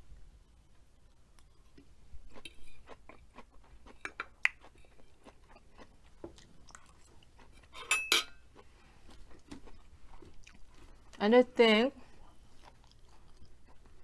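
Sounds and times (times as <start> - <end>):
close chewing with mouth clicks: 1.1 - 7.8, 8.4 - 11.2, 12.0 - 14.0.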